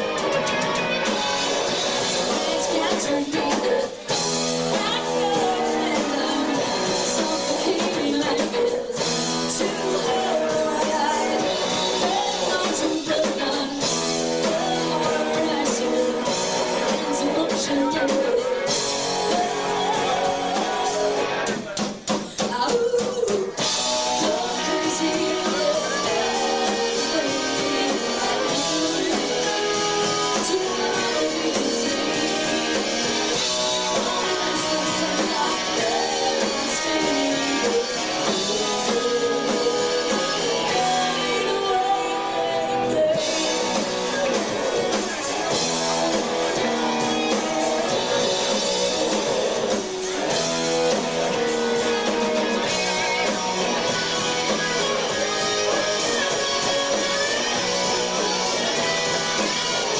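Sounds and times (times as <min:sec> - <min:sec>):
live rock band with singer: 0:00.0 - 0:59.9.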